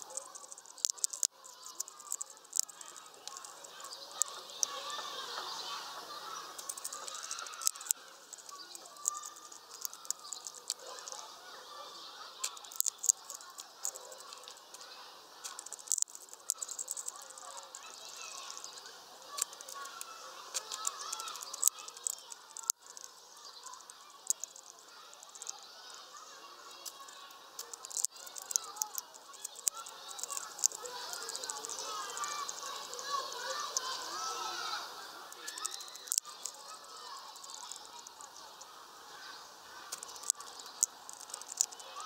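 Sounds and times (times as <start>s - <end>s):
bird bill cracking seeds: 0.0s - 5.7s, 6.3s - 11.4s, 12.4s - 14.8s, 15.4s - 25.7s, 26.7s - 34.1s, 35.3s - 38.6s, 39.8s - 42.0s
faint background murmur: 0.0s - 42.0s.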